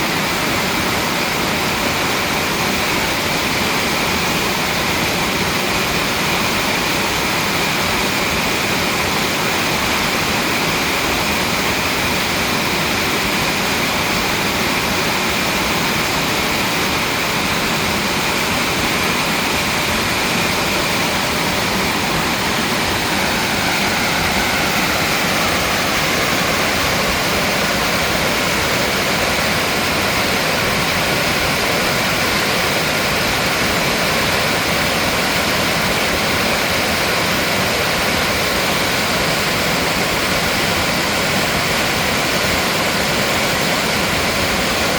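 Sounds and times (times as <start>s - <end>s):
stream rushing: 0.0s - 44.9s.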